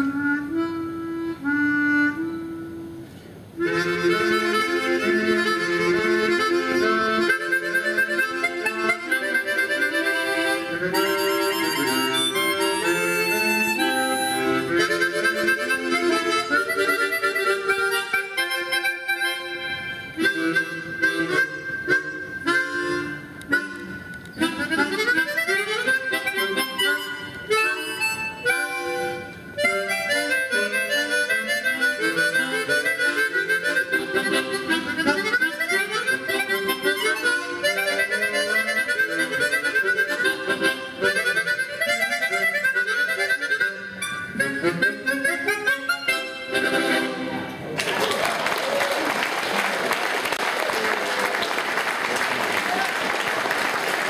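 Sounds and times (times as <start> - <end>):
harmonica ensemble playing: 0.0 - 47.8.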